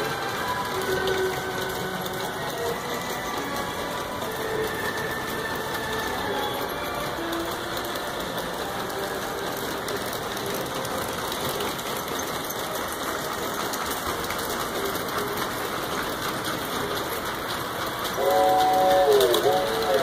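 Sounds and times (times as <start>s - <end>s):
model train motors whirring: 0.0s - 20.0s
wheels ticking over rails: 0.0s - 20.0s.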